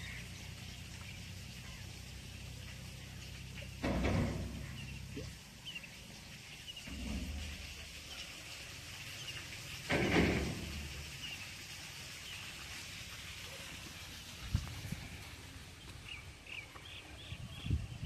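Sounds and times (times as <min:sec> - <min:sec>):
small birds chirping: 0:00.0 - 0:09.8, 0:10.7 - 0:13.8, 0:15.7 - 0:18.0
fish splashing in shallow water: 0:00.0 - 0:17.2.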